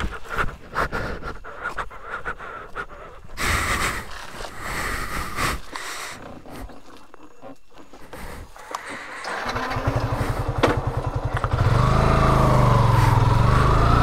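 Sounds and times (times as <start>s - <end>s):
person breathing heavily: 0.0s - 11.2s, 12.8s - 13.8s.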